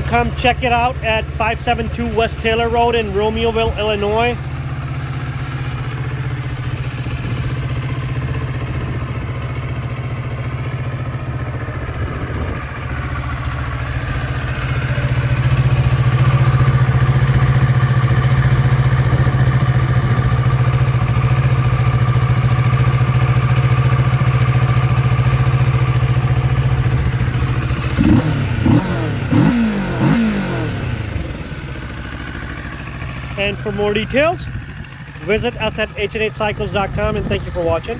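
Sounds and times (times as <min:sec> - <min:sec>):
motorcycle engine idling: 0:00.0 - 0:37.9
motorcycle engine revving: 0:00.0 - 0:37.9.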